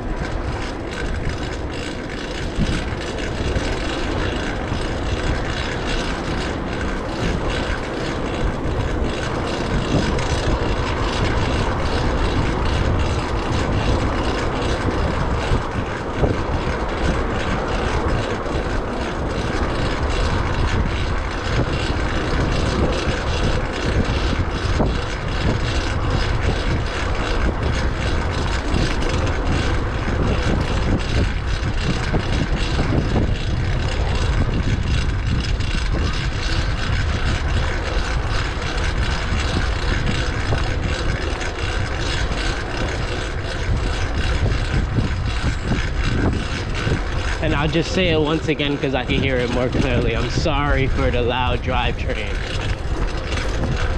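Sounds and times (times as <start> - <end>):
bicycle chain whirring: 0.0 - 53.9
wind rushing over microphone: 0.0 - 53.9.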